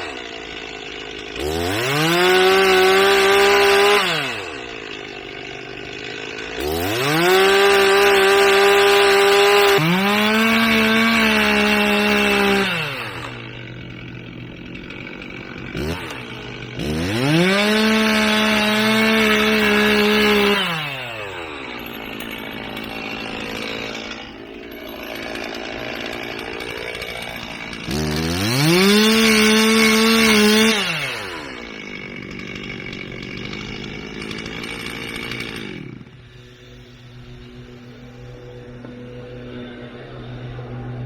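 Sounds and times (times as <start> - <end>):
chainsaw engine revving and idling: 0.0 - 36.6.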